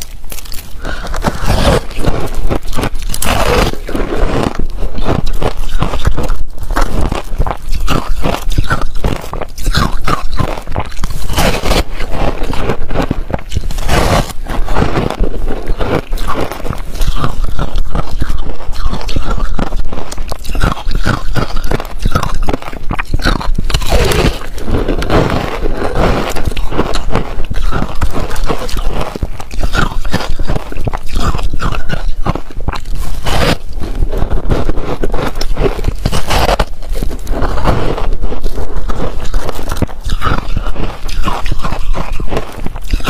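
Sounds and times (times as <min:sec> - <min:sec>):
crunching and chewing ice: 0:00.0 - 0:43.0.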